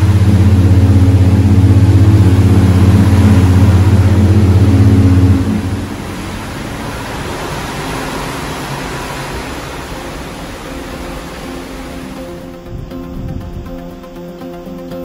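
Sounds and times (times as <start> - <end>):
sea rushing: 0.0 - 13.8
wind rushing: 0.0 - 13.8.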